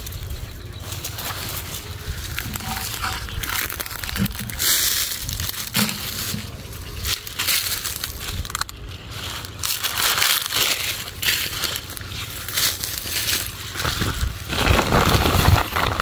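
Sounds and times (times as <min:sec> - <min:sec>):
plastic sacks and leaves rustling: 0:00.0 - 0:16.0.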